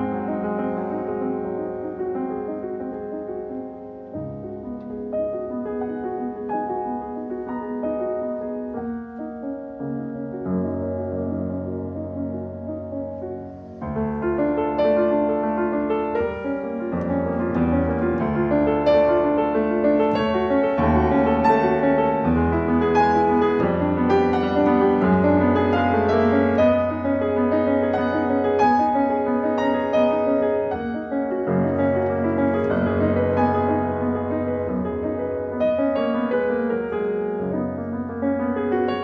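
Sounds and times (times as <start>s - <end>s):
classical piano: 0.0s - 39.0s.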